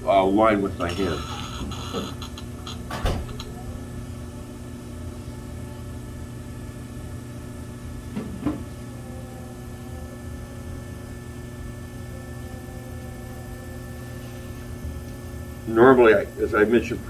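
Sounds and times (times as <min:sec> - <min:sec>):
potter's wheel motor hum: 0:00.0 - 0:17.0.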